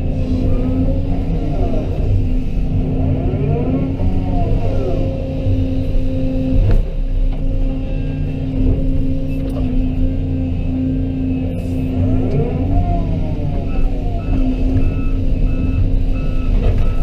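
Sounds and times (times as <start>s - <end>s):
excavator diesel engine: 0.0s - 17.0s
hydraulics whining: 0.0s - 17.0s.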